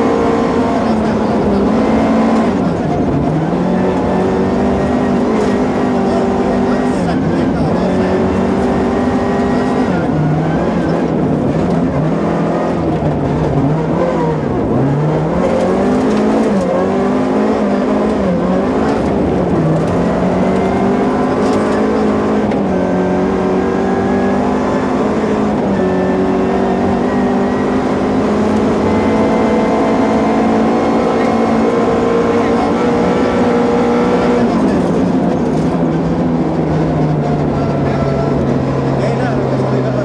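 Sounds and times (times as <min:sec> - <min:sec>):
car engine revving hard: 0:00.0 - 0:40.0.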